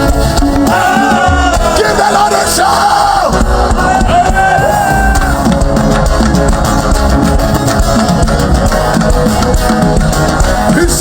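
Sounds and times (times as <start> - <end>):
live band playing loudly: 0.0 - 11.0.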